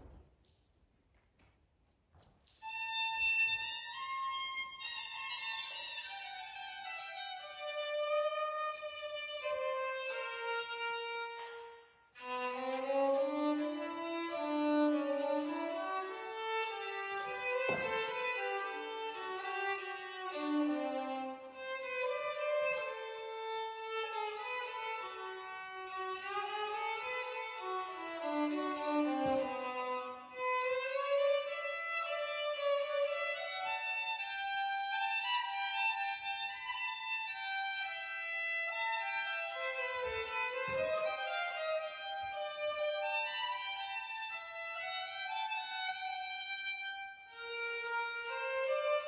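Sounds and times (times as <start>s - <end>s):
violin melody: 2.4s - 49.0s.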